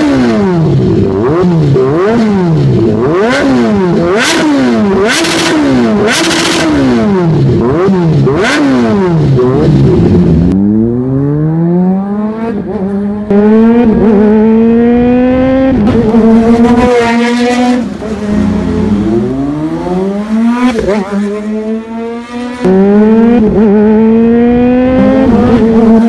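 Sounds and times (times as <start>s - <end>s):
motorcycle accelerating: 0.0s - 26.0s
motorcycle engine revving: 0.0s - 26.0s.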